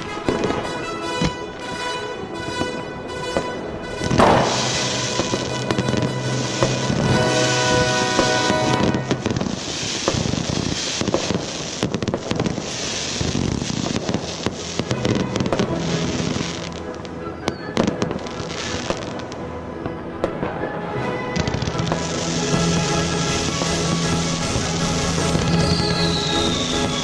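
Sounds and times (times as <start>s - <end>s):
fireworks bangs and crackling: 0.0s - 27.0s
music: 0.0s - 27.0s.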